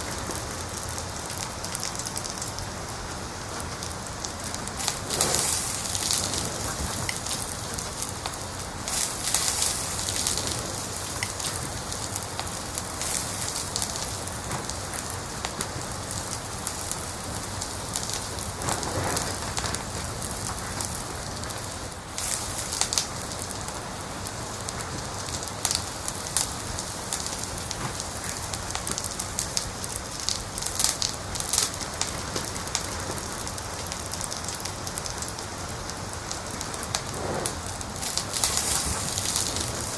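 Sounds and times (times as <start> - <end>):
fire hissing: 0.0 - 39.9
fire popping and snapping: 0.0 - 39.9.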